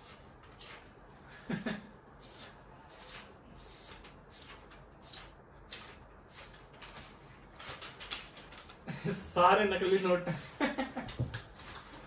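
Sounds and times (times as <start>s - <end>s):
paper banknotes rustling: 2.2s - 12.0s.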